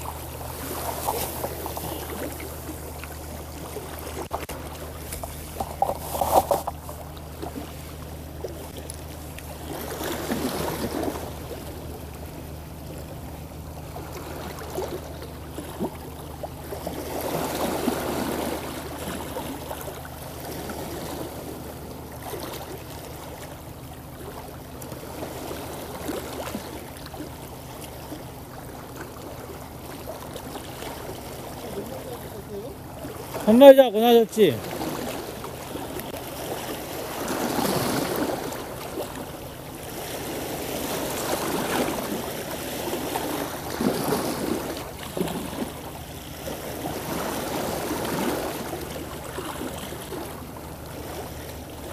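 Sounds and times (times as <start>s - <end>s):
boat engine humming: 0.0s - 51.9s
water sloshing against hull: 0.0s - 51.9s.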